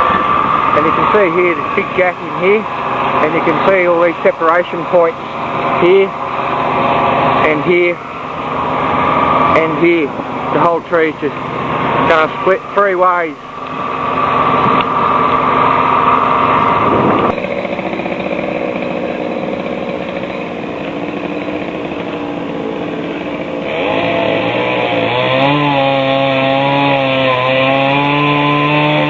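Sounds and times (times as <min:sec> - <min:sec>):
chainsaw engine running: 0:00.0 - 0:29.0.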